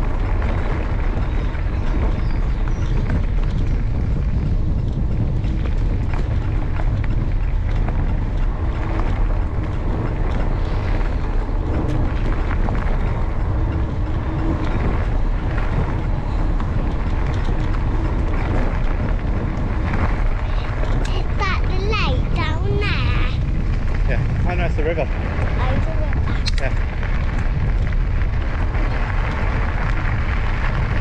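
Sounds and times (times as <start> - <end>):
bike tyres rolling on path: 0.0 - 31.0
small clicks and rattles: 0.0 - 31.0
wind rumble on microphone: 0.0 - 31.0.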